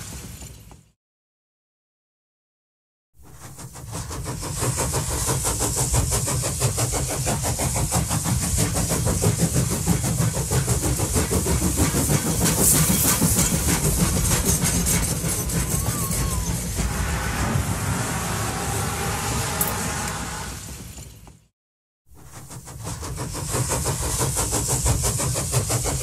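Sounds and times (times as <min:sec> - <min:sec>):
train rumble on rails: 0:00.0 - 0:01.0, 0:03.2 - 0:21.5, 0:22.1 - 0:26.0
hiss: 0:03.2 - 0:21.3, 0:22.2 - 0:26.0.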